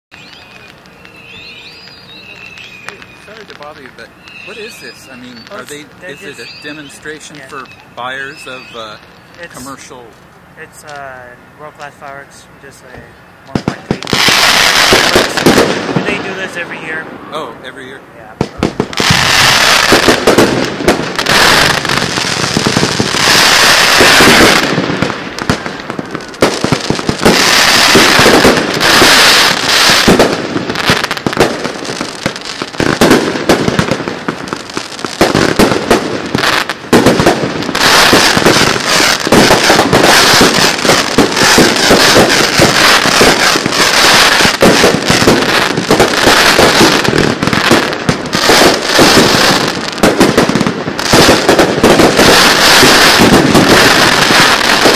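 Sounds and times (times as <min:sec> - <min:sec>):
fireworks bursts and crackling: 0:00.1 - 0:54.9.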